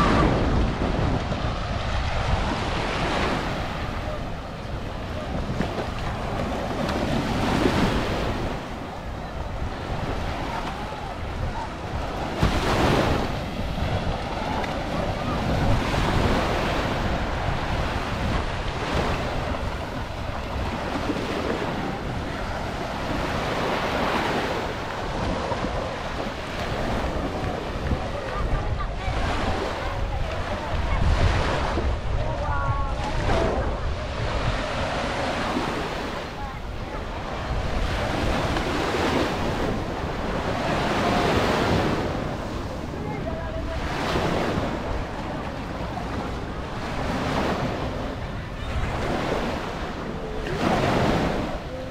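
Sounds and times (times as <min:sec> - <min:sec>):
small waves breaking on sand: 0:00.0 - 0:51.9
wind buffeting microphone: 0:00.0 - 0:51.9.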